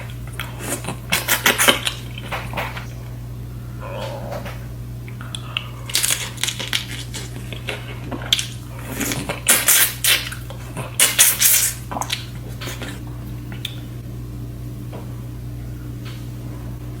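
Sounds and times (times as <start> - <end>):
crackles of eating seafood: 0.0 - 14.1
steady low hum: 0.0 - 17.0.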